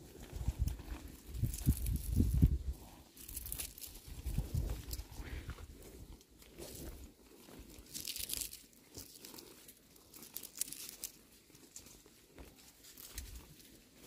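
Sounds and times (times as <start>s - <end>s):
dry seed pods crackling: 0.0s - 14.0s
twigs rustling: 0.2s - 14.0s.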